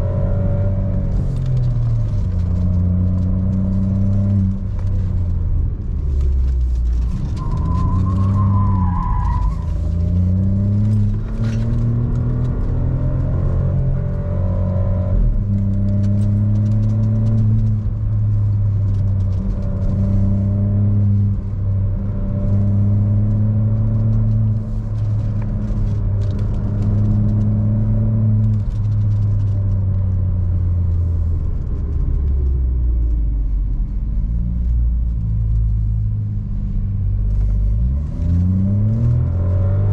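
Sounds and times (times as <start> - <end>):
car engine revving: 0.0 - 32.5, 34.2 - 39.9.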